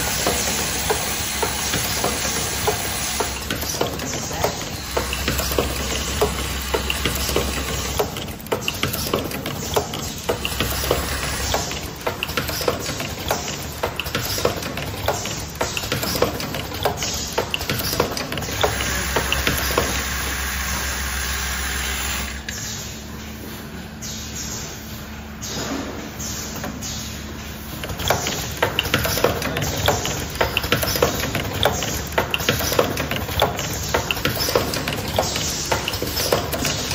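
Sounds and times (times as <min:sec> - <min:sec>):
machine clicks and knocks: 0:00.0 - 0:20.6, 0:25.5 - 0:36.9
machine whir and hum: 0:00.0 - 0:36.9.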